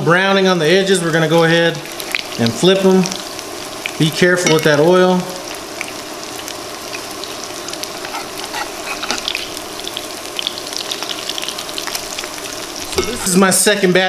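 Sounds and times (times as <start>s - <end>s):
latkes sizzling in hot oil: 0.4s - 14.0s.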